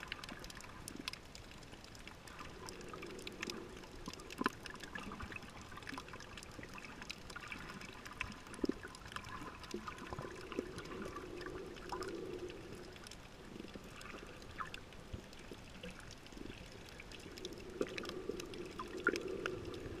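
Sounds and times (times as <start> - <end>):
muffled underwater sloshing: 0.0 - 20.0
small underwater clicks: 0.0 - 20.0.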